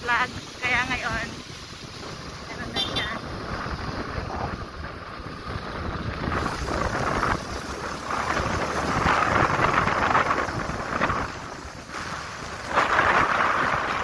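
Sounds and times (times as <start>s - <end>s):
low motorcycle rumble: 0.0s - 14.0s
wind rushing over microphone: 0.0s - 14.0s.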